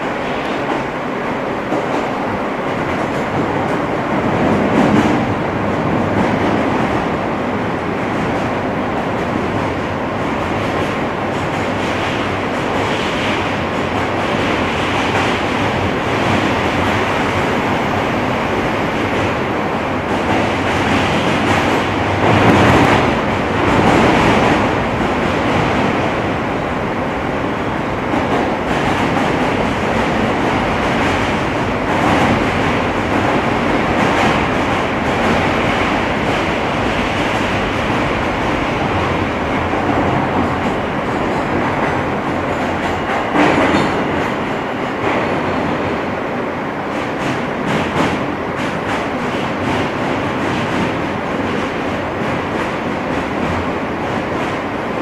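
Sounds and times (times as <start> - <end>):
train clatter: 0.0 - 46.0, 46.9 - 55.0
subway train wheels on rails: 0.0 - 55.0.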